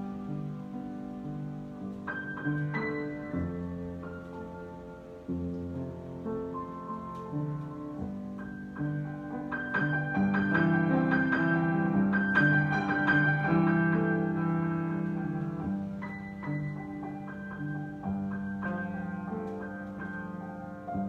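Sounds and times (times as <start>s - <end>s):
solo piano improvisation: 0.0s - 21.0s.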